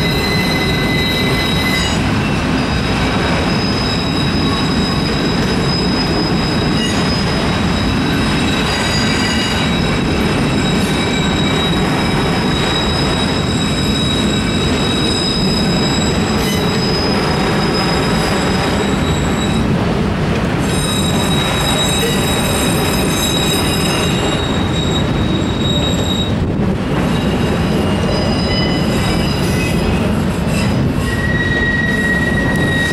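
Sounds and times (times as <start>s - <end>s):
high-pitched wheel squeal: 0.0s - 19.7s, 20.6s - 26.4s, 27.0s - 32.9s
freight train wheels rumbling on rail: 0.0s - 32.9s.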